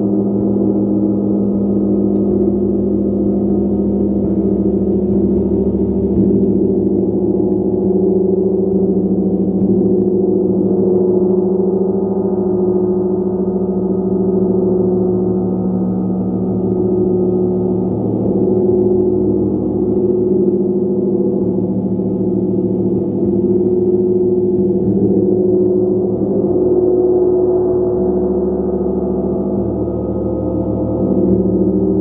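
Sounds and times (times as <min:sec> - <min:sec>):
large gong ringing: 0:00.0 - 0:32.0.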